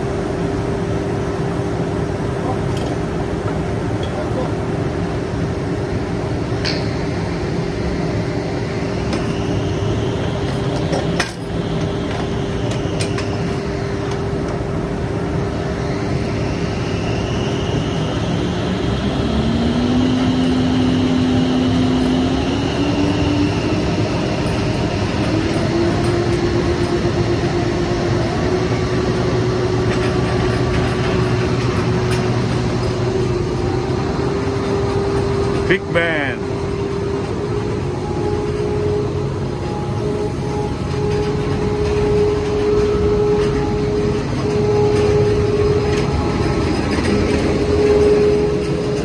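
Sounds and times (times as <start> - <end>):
drilling rig machinery drone: 0.0 - 49.0
hum climbing in pitch: 3.1 - 49.0.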